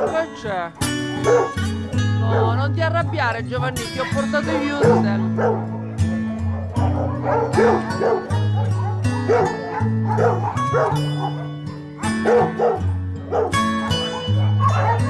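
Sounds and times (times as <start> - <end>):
background music with low notes: 0.0 - 15.0
dogs barking: 0.0 - 15.0.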